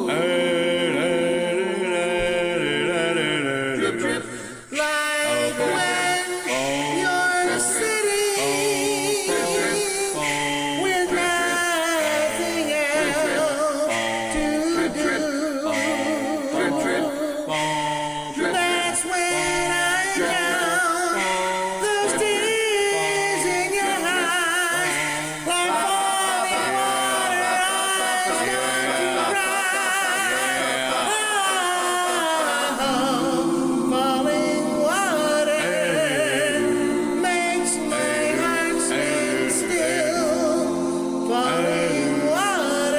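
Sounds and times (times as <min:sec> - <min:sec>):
male a cappella singing: 0:00.0 - 0:42.9.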